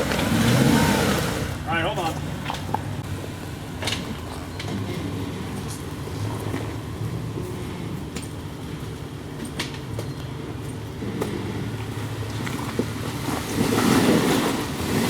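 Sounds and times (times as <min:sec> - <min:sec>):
car engine idling: 0:00.0 - 0:13.6.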